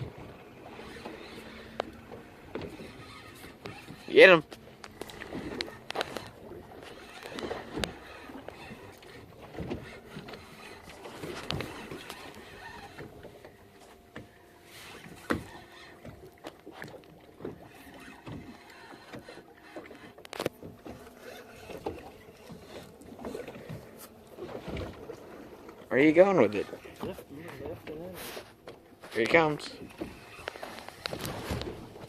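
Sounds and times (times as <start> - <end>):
water against boat hull: 0.0 - 32.0.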